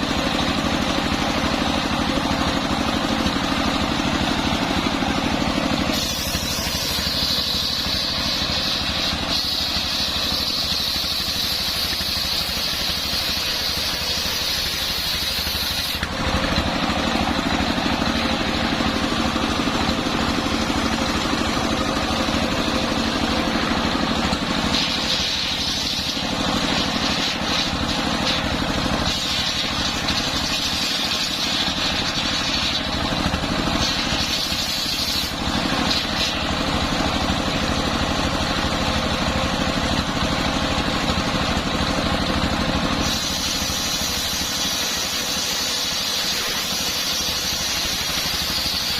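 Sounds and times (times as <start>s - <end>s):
saw blade cutting log: 0.0s - 48.9s
sawmill engine running: 0.0s - 48.9s.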